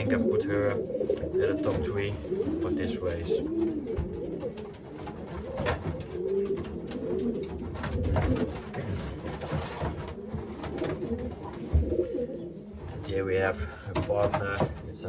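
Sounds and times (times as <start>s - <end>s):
clicks and knocks of birds moving: 0.0s - 15.0s
pigeons cooing: 0.0s - 15.0s.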